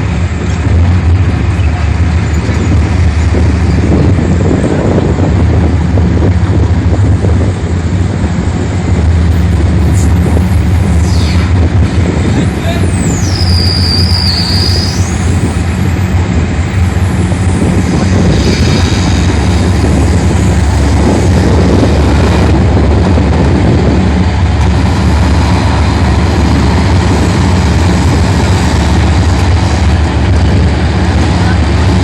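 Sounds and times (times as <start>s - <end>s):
large engine running: 0.0s - 32.0s.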